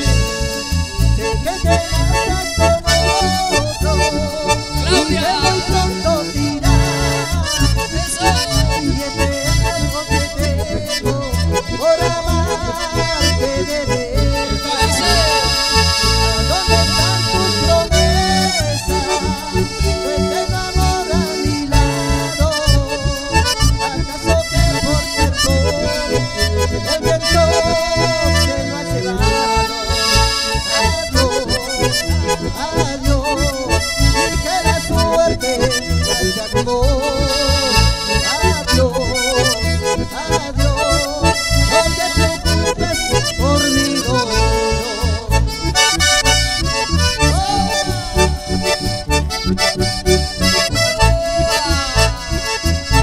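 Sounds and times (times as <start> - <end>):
bandoneon and accordion: 0.0 - 53.0
guitar accompaniment: 0.0 - 53.0
pulsing bass beat: 0.0 - 53.0.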